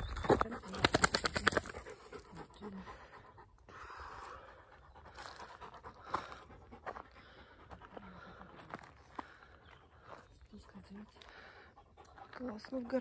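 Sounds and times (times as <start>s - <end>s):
dog panting rapidly: 0.2s - 9.4s, 10.0s - 13.0s.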